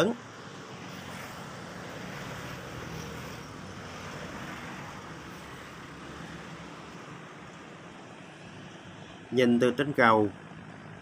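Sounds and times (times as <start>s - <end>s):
traffic-like noise: 0.0s - 11.0s.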